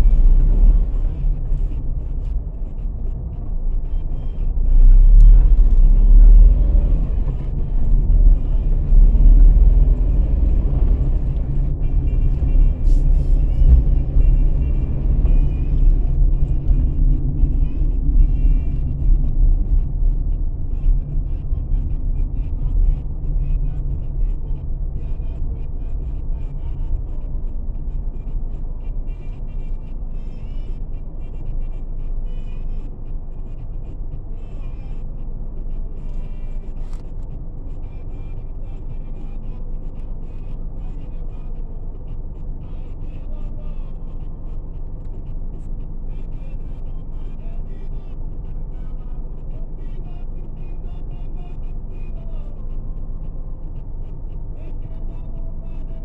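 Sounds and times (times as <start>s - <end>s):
car driving rumble: 0.0s - 56.0s
faint music: 0.0s - 56.0s.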